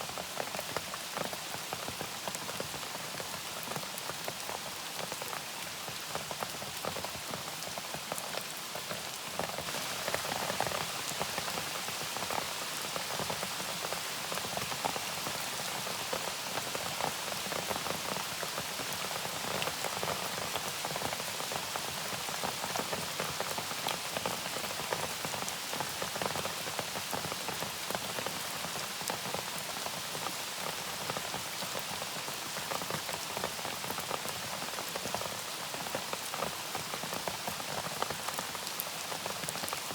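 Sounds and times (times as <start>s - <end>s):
raindrops hitting a surface: 0.0s - 39.9s
steady rain falling: 0.0s - 39.9s.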